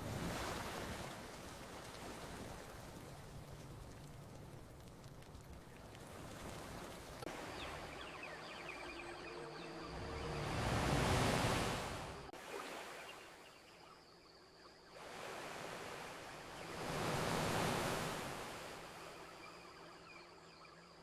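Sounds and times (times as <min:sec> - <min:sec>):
ocean waves washing onto beach: 0:00.0 - 0:13.4, 0:15.0 - 0:19.7.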